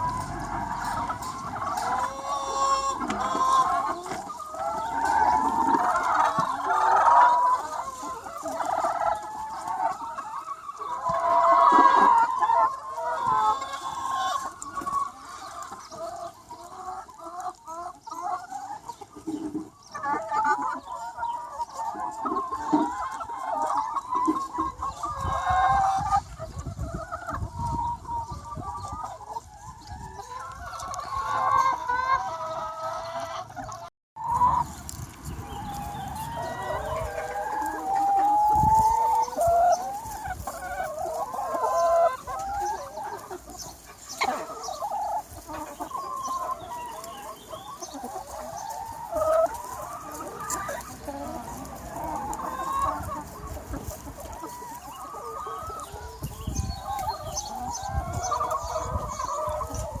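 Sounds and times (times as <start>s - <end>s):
hens clucking: 0.0s - 60.0s.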